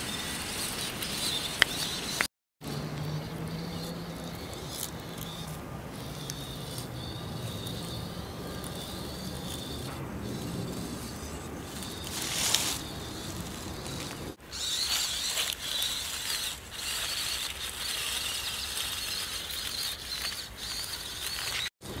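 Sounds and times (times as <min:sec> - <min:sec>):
electric motors whining: 0:00.0 - 0:22.0
robot legs on rough ground: 0:00.0 - 0:22.0.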